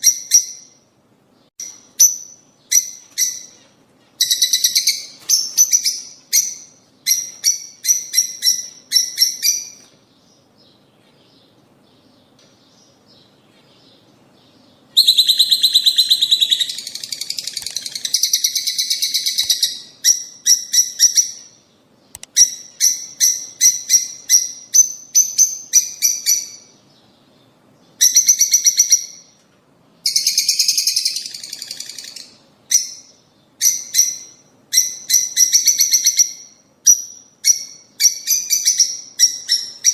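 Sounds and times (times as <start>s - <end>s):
lovebirds chirping: 0.0s - 29.4s, 30.0s - 39.9s.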